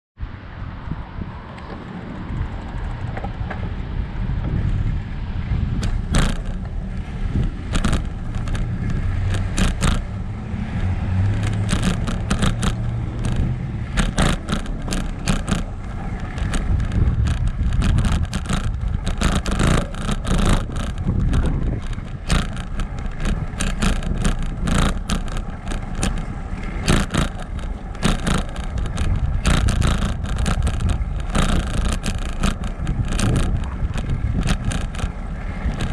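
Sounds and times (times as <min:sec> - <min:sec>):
wind on microphone: 0:00.2 - 0:35.9
bicycle tyres rumbling on bricks: 0:00.8 - 0:35.9
bike clicks and rattles: 0:01.4 - 0:35.9.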